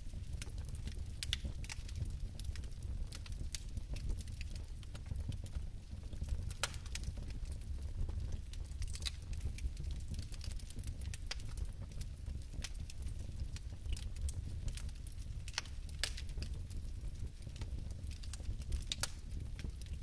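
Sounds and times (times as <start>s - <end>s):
fire crackling: 0.0s - 20.0s
low rumble of fire: 0.0s - 20.0s
loud fire pops: 0.1s - 20.0s.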